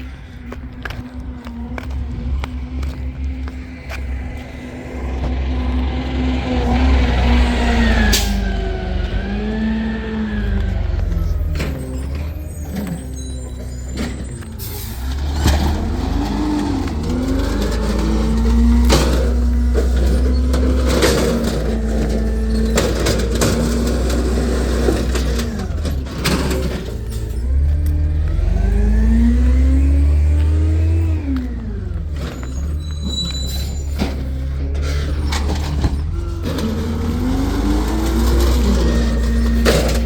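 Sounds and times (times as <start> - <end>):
garbage truck engine revving: 0.6 - 40.0.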